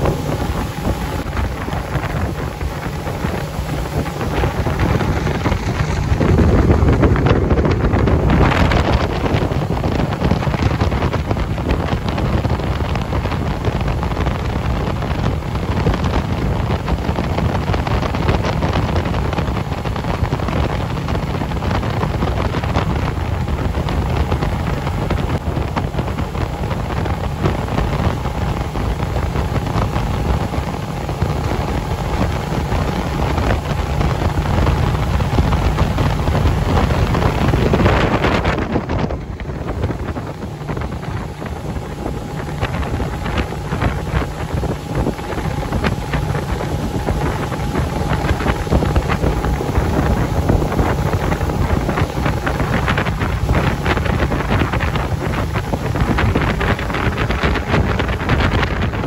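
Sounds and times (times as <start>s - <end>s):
outboard motor droning: 0.0s - 59.0s
rush of boat wake: 0.0s - 59.0s
wind buffeting microphone: 0.0s - 59.0s.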